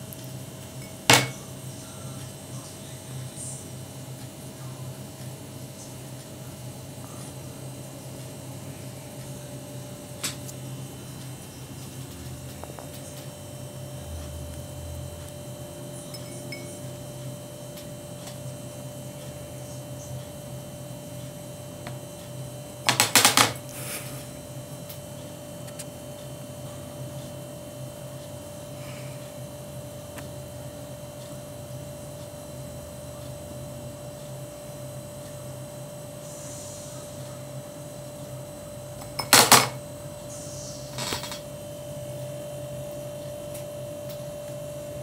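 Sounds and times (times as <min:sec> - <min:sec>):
electrical hum: 0:00.0 - 0:45.0.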